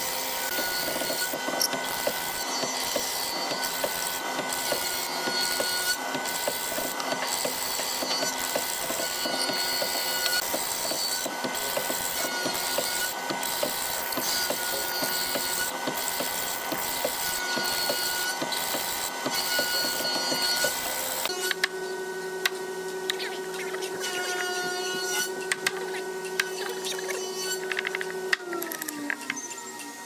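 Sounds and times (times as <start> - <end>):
mortising machine running: 0.0 - 30.0.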